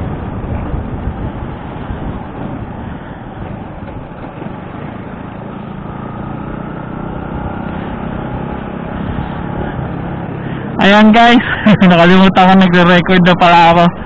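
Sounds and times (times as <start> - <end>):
scooter engine hum: 0.0 - 14.0
wind buffeting microphone: 0.0 - 14.0.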